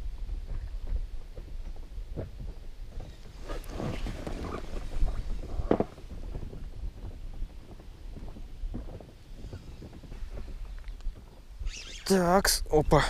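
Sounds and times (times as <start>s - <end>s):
knocks and rustles in a boat: 0.0s - 11.5s
wind rumble on microphone: 0.0s - 13.0s.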